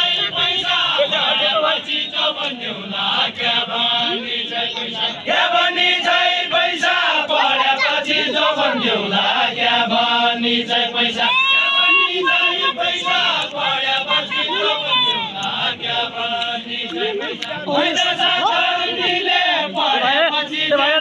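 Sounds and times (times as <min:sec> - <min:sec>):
group singing folk chorus: 0:00.0 - 0:21.0.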